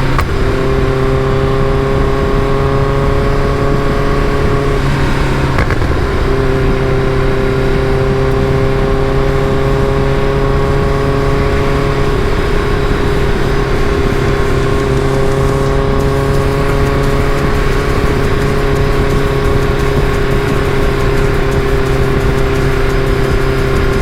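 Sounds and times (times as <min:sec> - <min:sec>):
car engine droning: 0:00.0 - 0:24.0
road and wind noise: 0:00.0 - 0:24.0.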